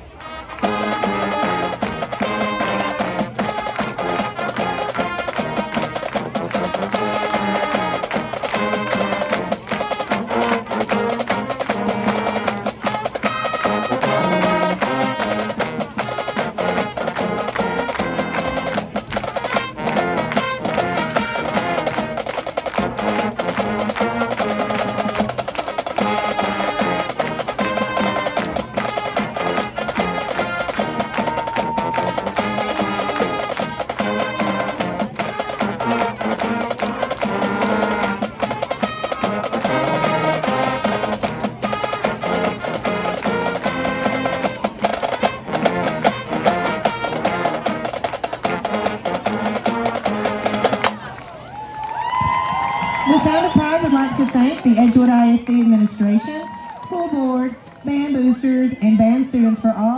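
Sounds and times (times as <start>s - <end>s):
wind instrument chords: 0.0s - 51.3s
marching band playing: 0.0s - 59.9s.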